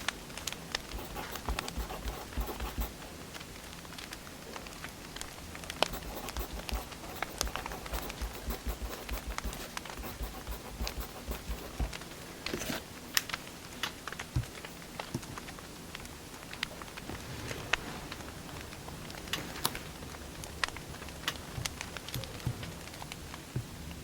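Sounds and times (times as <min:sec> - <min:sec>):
soft steady hiss: 0:00.0 - 0:24.0.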